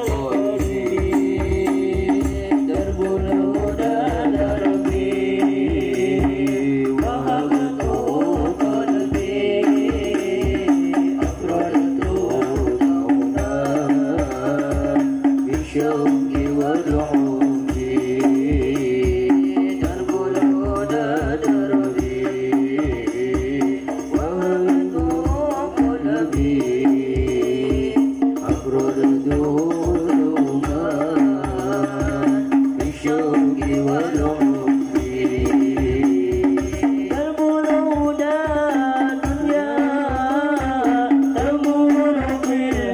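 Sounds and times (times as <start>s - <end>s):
frame drums beating: 0.0s - 42.9s
person singing devotional melody: 0.0s - 42.9s.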